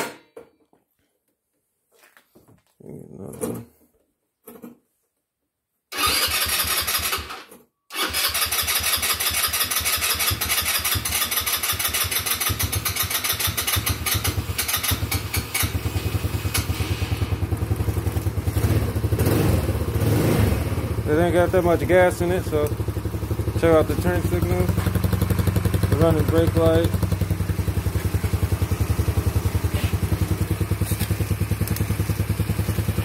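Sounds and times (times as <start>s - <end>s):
scooter engine starting and idling: 5.9s - 33.0s.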